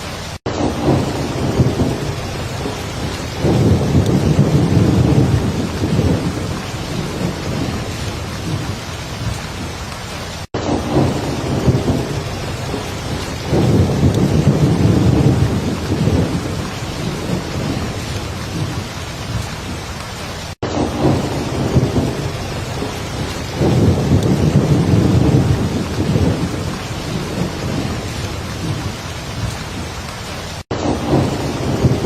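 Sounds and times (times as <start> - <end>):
low rolling thunder: 0.0 - 9.8, 10.6 - 19.9, 20.6 - 30.0, 30.8 - 32.0
heavy rain: 0.0 - 32.0.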